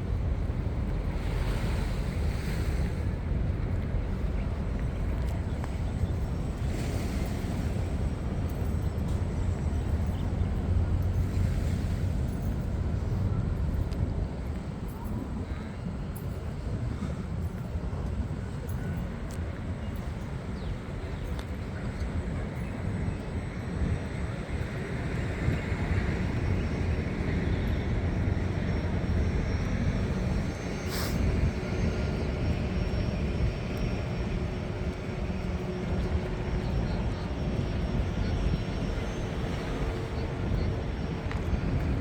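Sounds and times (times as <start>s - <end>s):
city ambience rumble: 0.0s - 42.0s.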